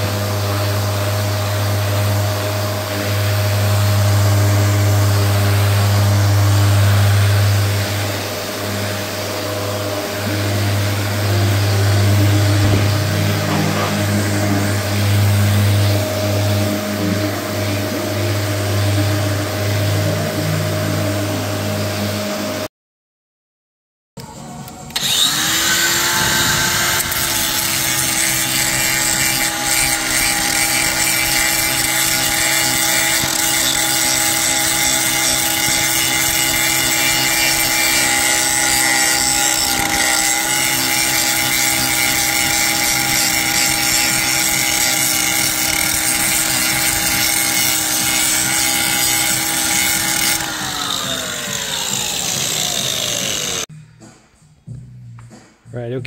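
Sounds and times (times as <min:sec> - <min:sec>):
grinding disc rasping on metal: 0:00.0 - 0:21.8, 0:25.0 - 0:53.7
angle grinder whining: 0:00.0 - 0:22.7, 0:24.7 - 0:53.7.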